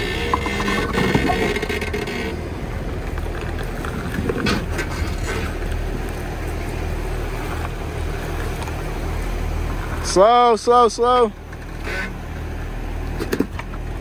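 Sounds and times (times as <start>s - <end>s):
car engine running low: 0.0s - 14.0s.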